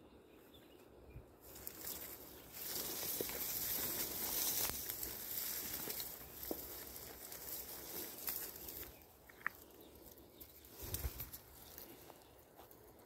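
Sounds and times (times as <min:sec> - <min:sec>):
grain stalks rustling: 0:01.4 - 0:13.0.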